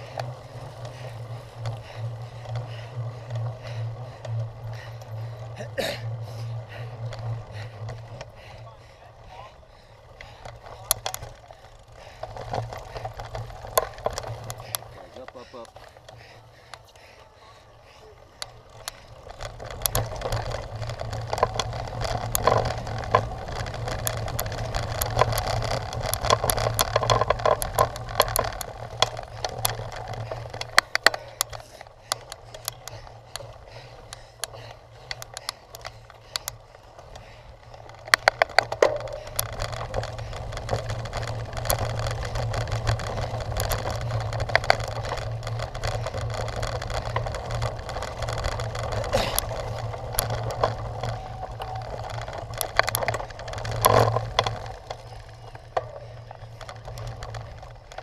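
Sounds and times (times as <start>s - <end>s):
bicycle rattling over rough ground: 0.0s - 58.0s
steady low hum: 0.0s - 58.0s.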